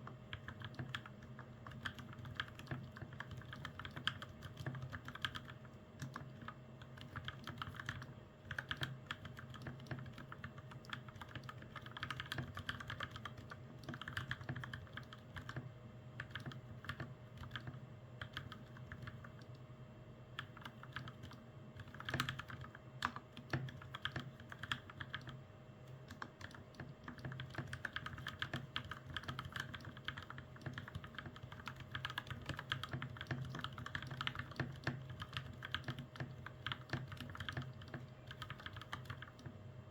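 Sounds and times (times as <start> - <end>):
mechanical keyboard typing: 0.3 - 19.6, 20.4 - 39.6.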